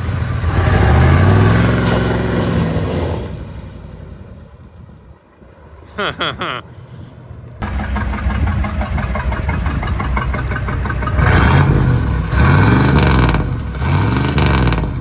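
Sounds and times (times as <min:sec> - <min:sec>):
diesel engine clatter and revving: 0:00.0 - 0:15.0.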